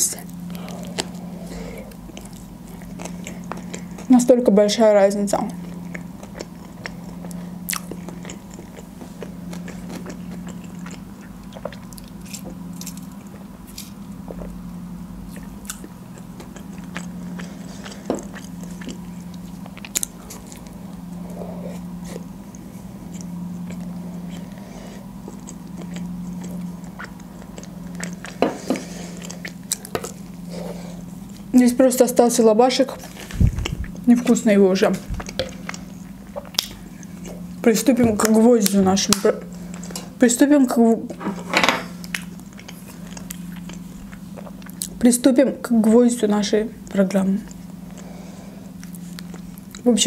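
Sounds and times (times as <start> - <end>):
chewing food: 0.0 - 40.3, 41.0 - 45.1, 46.8 - 50.0
steady low hum: 0.0 - 50.0.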